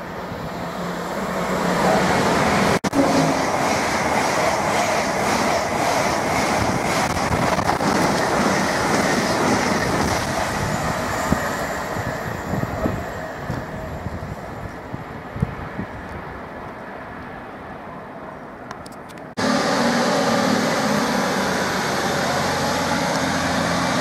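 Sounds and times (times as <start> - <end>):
train rushing past: 0.0 - 16.4, 19.4 - 24.0.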